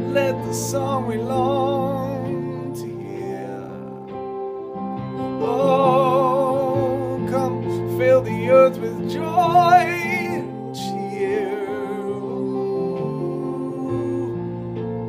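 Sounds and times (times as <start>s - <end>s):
man singing with vibrato: 0.0s - 4.4s, 5.2s - 14.8s
electronic keyboard chords: 0.0s - 15.0s.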